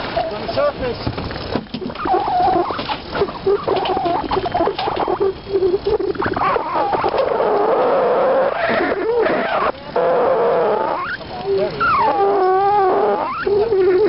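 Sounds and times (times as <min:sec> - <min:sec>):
fishing reel motor whining: 0:01.8 - 0:14.0.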